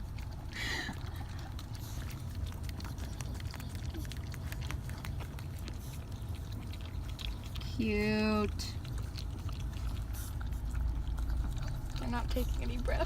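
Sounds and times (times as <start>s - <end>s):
car low rumble: 0.0s - 13.0s
dogs licking and lapping: 0.0s - 13.0s.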